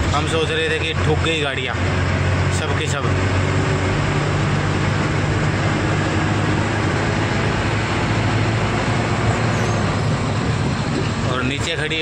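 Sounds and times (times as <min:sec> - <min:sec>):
diesel truck engine running: 0:00.0 - 0:12.0
tyre and road noise: 0:00.0 - 0:12.0.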